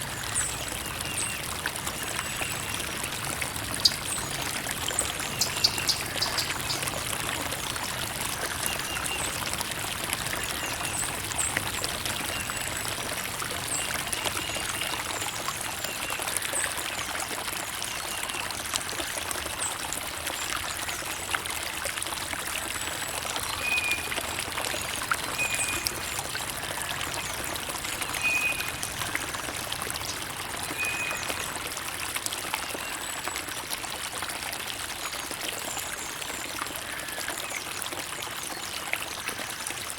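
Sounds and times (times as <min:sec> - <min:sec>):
creek water trickling: 0:00.0 - 0:39.9.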